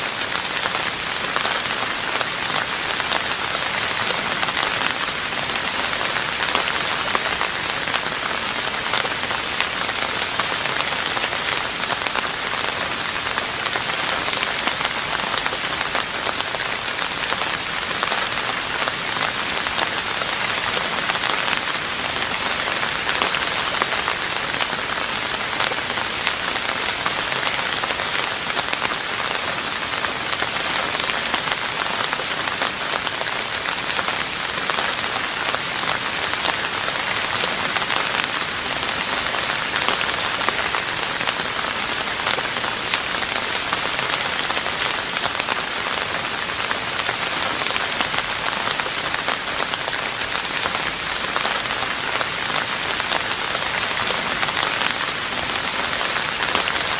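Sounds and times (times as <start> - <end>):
rain falling on a roof: 0.0 - 56.9.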